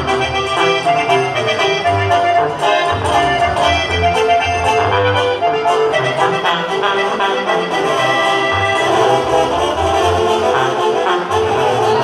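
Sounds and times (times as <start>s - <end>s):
live band music through pa: 0.0s - 12.0s.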